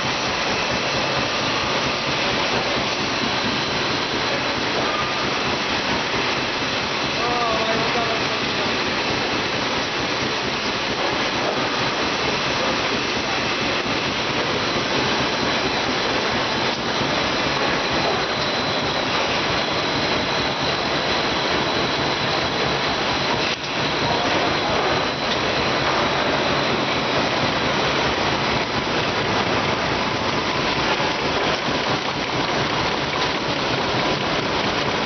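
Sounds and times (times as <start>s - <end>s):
wrapping machine whir: 0.0s - 35.0s.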